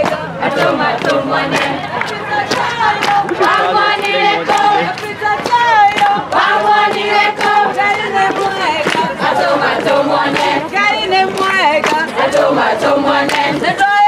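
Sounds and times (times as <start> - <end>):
crowd singing and chanting: 0.0 - 14.0
sharp claps: 0.0 - 14.0.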